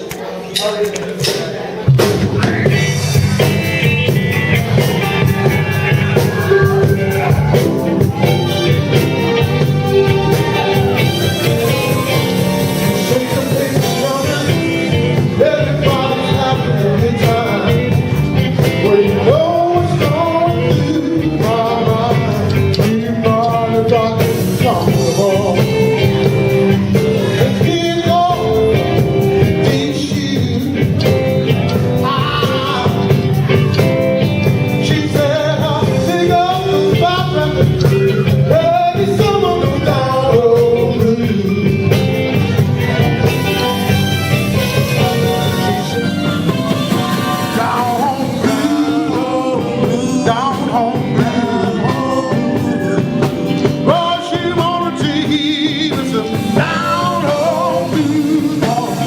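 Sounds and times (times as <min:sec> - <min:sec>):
blues-rock band playing: 0:00.0 - 0:59.0
person singing: 0:01.9 - 0:59.0.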